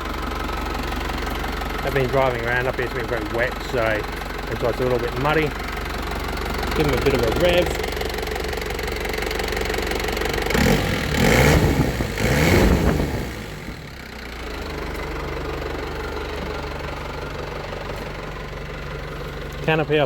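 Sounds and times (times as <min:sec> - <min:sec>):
diesel engine idling and revving: 0:00.0 - 0:20.0.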